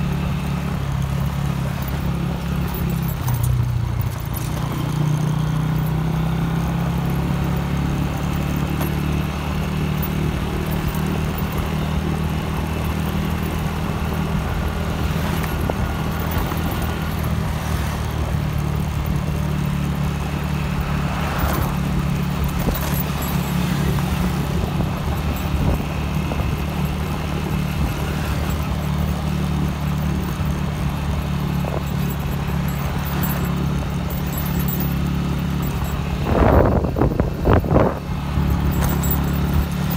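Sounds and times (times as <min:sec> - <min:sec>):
road and wind noise: 0:00.0 - 0:39.9
vehicle engine droning: 0:00.0 - 0:39.9.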